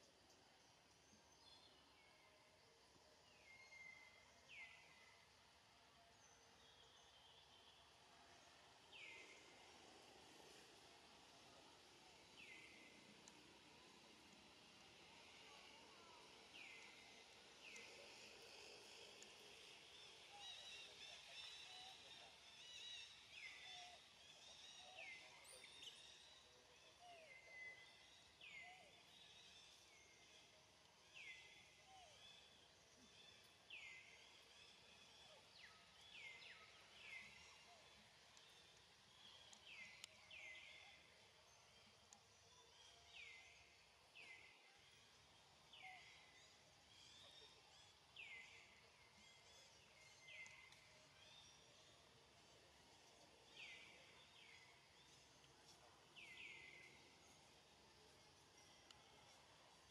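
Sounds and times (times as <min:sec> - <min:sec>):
faint outdoor background: 0:00.0 - 0:59.9
soft bird chirping: 0:06.1 - 0:59.9.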